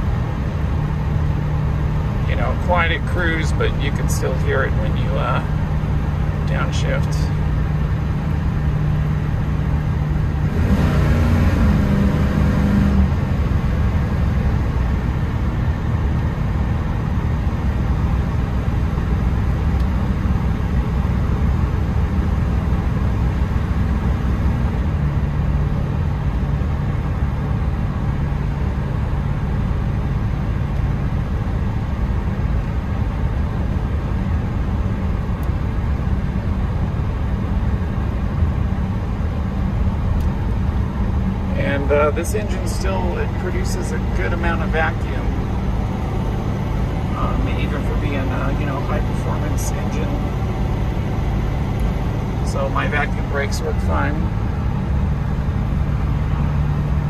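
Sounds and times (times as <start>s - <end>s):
car engine cruising and revving: 0.0s - 57.0s.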